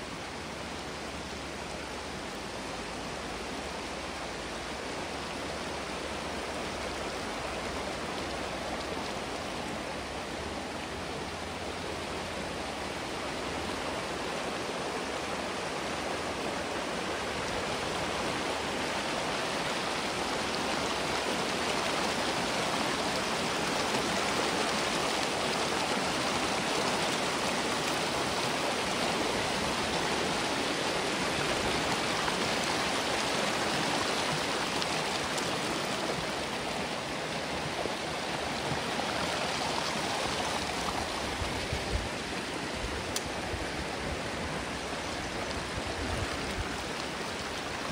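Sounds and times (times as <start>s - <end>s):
creek water rushing: 0.0s - 47.9s.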